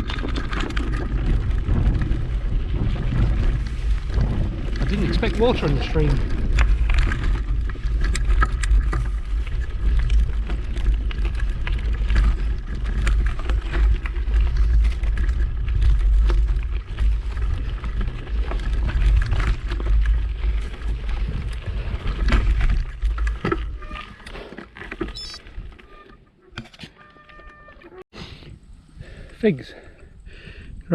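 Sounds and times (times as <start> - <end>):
wind buffeting microphone: 0.0 - 24.1, 28.2 - 30.9
bicycle clicks and rattles: 0.0 - 28.0.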